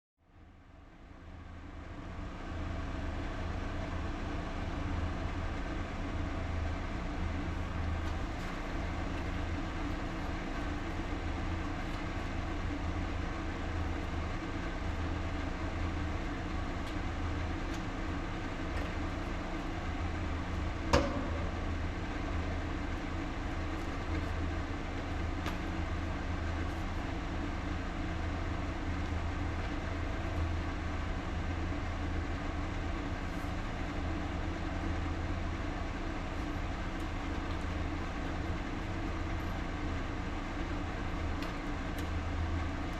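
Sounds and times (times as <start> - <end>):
low mechanical hum: 0.2 - 42.9.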